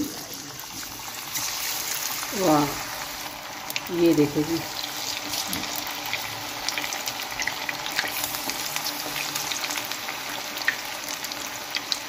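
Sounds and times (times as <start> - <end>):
chicken deep-frying in oil: 0.0 - 12.0
oil crackling and popping: 0.0 - 12.0.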